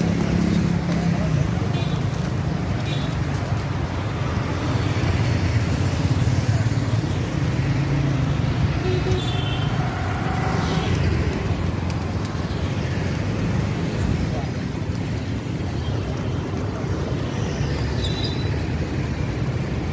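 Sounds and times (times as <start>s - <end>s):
road traffic rumble: 0.0s - 19.9s.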